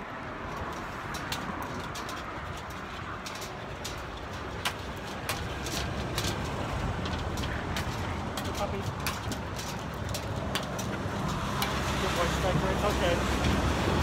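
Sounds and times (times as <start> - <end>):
low rumble of traffic: 0.0 - 14.0
puppy claws clicking on metal: 0.4 - 13.0.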